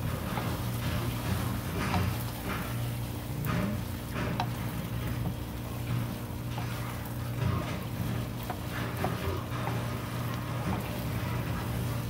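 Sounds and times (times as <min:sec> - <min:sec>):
spatula scraping rice in wok: 0:00.0 - 0:12.0
spatula tapping pan: 0:00.0 - 0:12.0.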